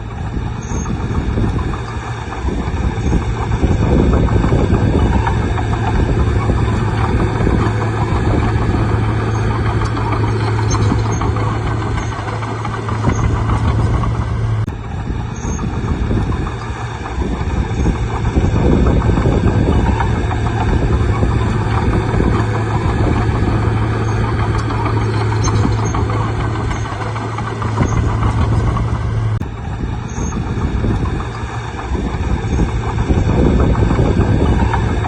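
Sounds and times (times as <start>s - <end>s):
bulldozer diesel engine running: 0.0s - 35.0s
machine grinding: 0.0s - 35.0s.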